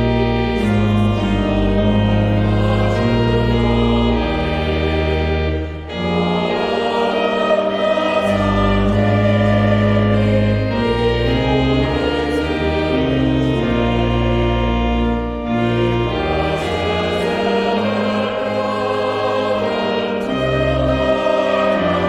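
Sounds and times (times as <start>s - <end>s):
choir and congregation singing hymn: 0.0s - 22.0s
organ accompaniment: 0.0s - 22.0s.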